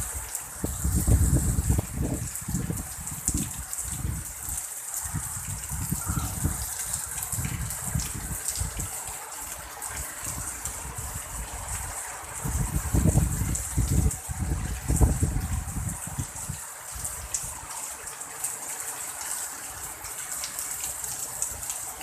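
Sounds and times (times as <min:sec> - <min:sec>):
strong wind gusts: 0:00.0 - 0:17.6
heavy pouring rain: 0:00.0 - 0:22.0.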